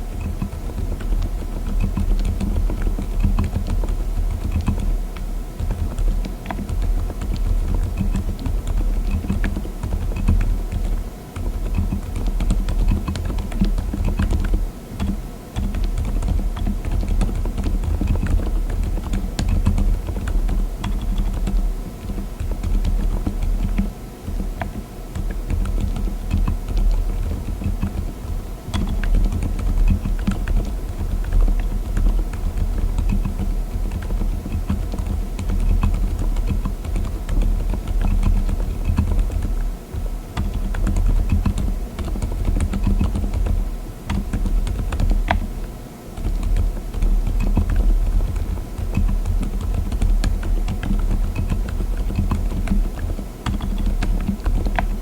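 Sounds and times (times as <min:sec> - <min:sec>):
soft mechanical keyboard typing: 0:00.1 - 0:55.0.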